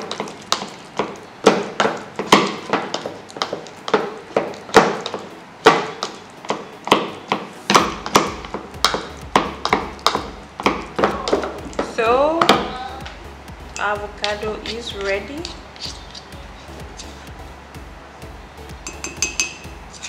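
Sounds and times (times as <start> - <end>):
pestle pounding in plastic mortar: 0.0 - 17.4.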